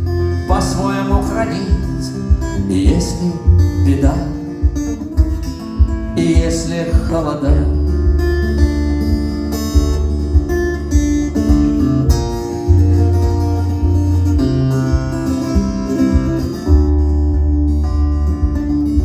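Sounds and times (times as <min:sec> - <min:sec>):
acoustic guitar chords: 0:00.0 - 0:19.0
low bass line: 0:00.0 - 0:19.0.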